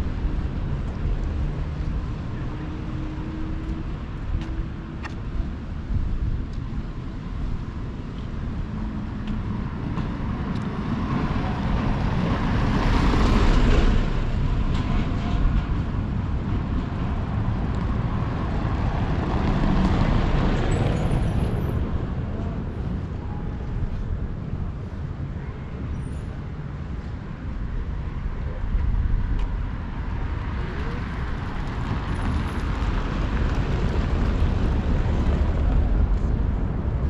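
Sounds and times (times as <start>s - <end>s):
cars passing by: 0.0s - 37.0s.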